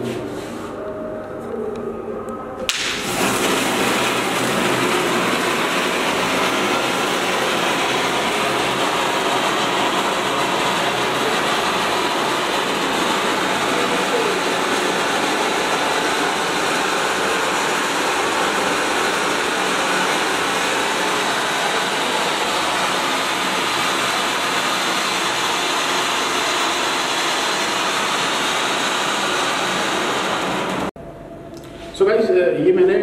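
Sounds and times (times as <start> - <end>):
spark fountain hissing: 2.7 - 30.9.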